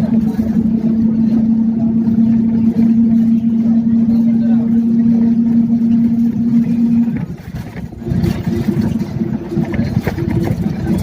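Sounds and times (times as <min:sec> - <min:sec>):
rattles: 0:00.0 - 0:11.0
vehicle engine and road rumble: 0:00.0 - 0:11.0.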